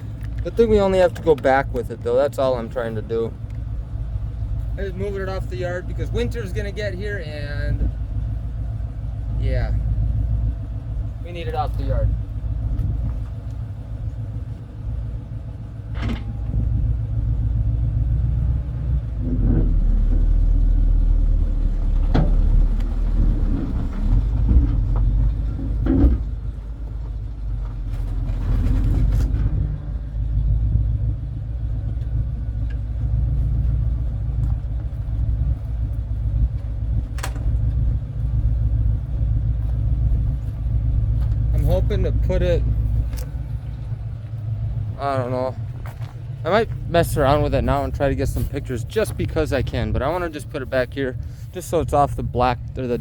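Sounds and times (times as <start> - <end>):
tow truck engine rumbling: 0.0 - 53.0.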